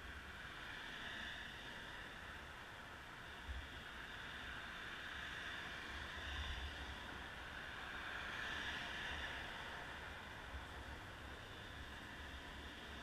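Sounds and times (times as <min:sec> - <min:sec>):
faint road traffic: 0:00.0 - 0:13.0.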